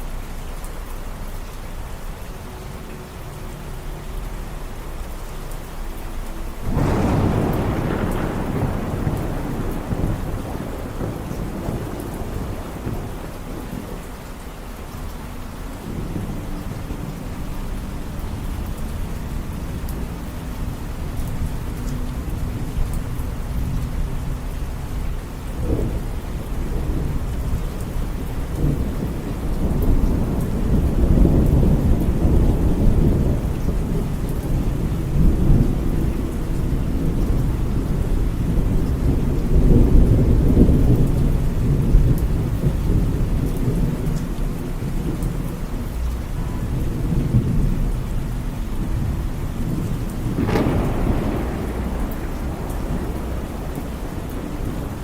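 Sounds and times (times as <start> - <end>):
steady rain: 0.0 - 55.0
thunder rumbling: 6.3 - 55.0.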